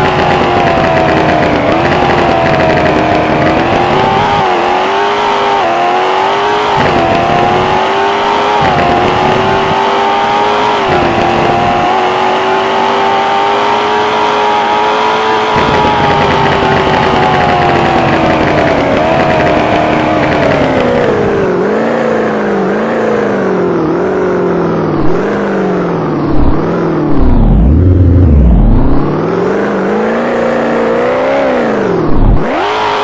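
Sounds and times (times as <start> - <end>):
car engine running at high revs: 0.0 - 33.0.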